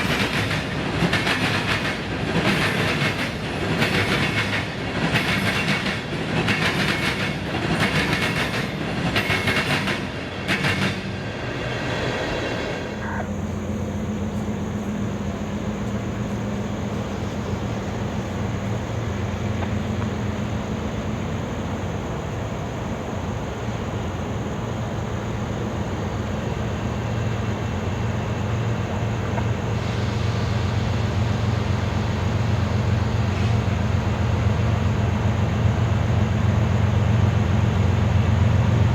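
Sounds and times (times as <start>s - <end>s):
train wheels clicking over track: 0.0s - 20.6s, 25.9s - 38.9s.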